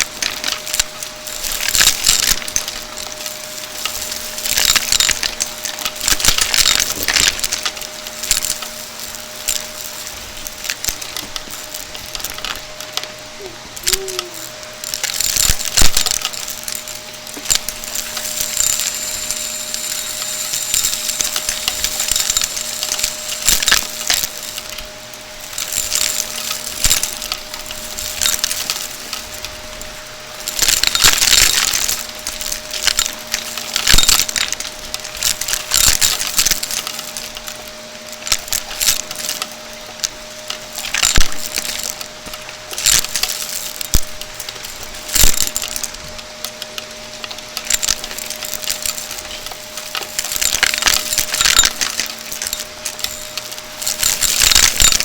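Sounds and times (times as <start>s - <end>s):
debris rattling through vacuum: 0.0s - 55.0s
vacuum cleaner humming: 0.0s - 55.0s.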